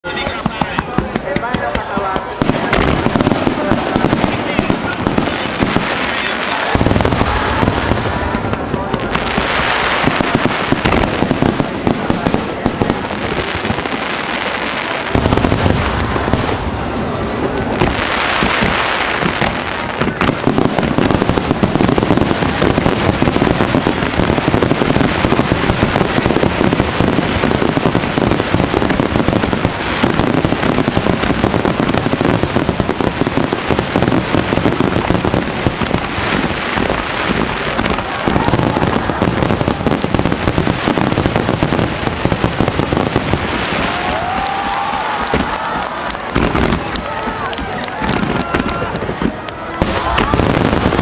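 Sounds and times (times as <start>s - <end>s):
fireworks bursts and crackle: 0.0s - 51.0s.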